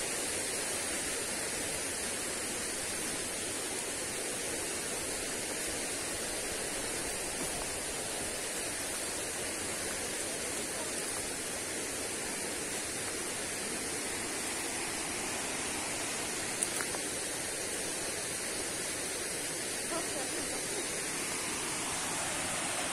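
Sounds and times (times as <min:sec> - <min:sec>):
waterfall and stream rushing: 0:00.0 - 0:22.9.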